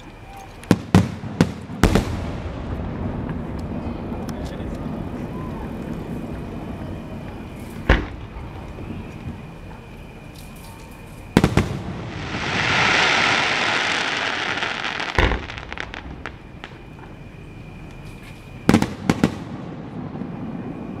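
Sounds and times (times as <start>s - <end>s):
firework bangs: 0.0s - 9.9s, 11.3s - 17.3s, 18.2s - 21.0s
firework hissing crackle: 0.0s - 21.0s.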